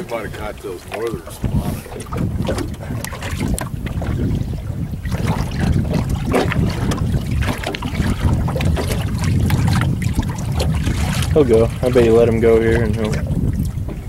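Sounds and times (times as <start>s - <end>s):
water lapping and splashing: 0.0s - 14.0s
wind buffeting microphone: 0.0s - 14.0s.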